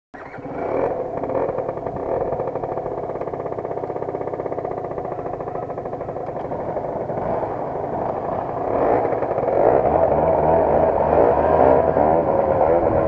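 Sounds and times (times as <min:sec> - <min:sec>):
scooter engines idling: 0:00.2 - 0:13.0
scooter pulling away: 0:00.2 - 0:13.0.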